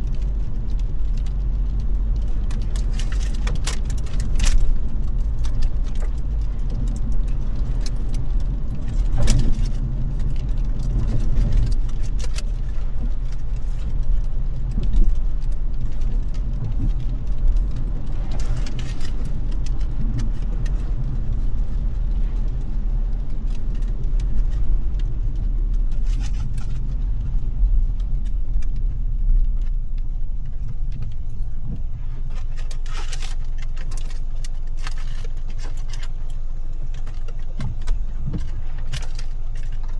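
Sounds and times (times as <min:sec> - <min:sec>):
light ticks and rattles: 0:00.0 - 0:39.9
road and engine rumble: 0:00.0 - 0:39.9.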